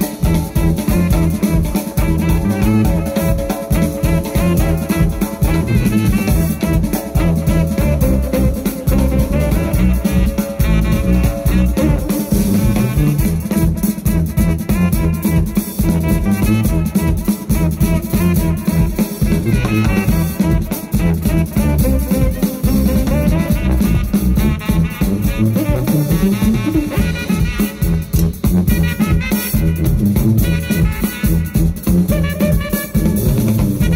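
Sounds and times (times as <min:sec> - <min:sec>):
loud drumming: 0:00.0 - 0:33.9
saxophone: 0:00.0 - 0:33.9
tuba bass line: 0:00.0 - 0:33.9.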